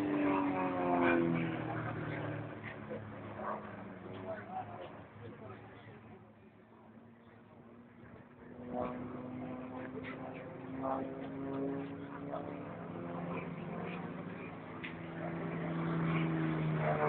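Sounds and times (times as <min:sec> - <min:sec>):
propeller aircraft engine droning: 0:00.0 - 0:17.0.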